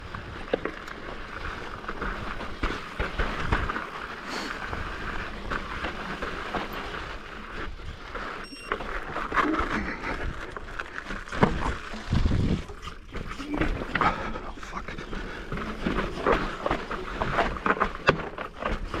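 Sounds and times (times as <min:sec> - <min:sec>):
mountain bike rattling: 0:00.0 - 0:19.0
wheels knocking on rocks: 0:00.0 - 0:19.0.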